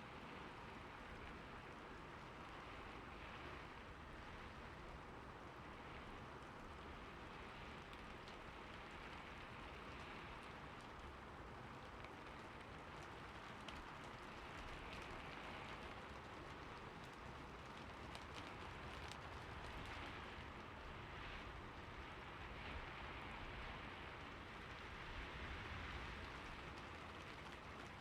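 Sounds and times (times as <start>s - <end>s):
soft rain falling: 0.0s - 28.0s.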